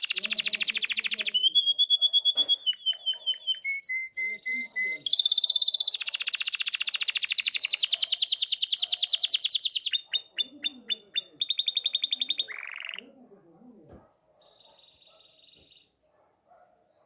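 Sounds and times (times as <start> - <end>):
canary singing trills: 0.0 - 13.2, 14.4 - 16.0.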